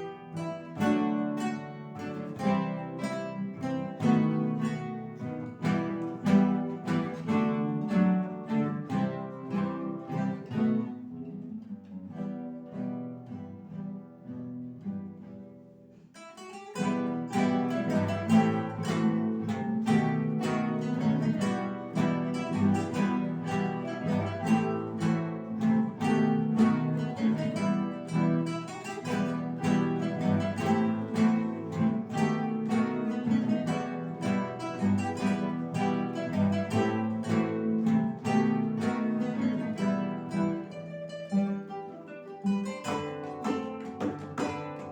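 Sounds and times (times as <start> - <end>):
acoustic guitars plucking: 0.0 - 44.9.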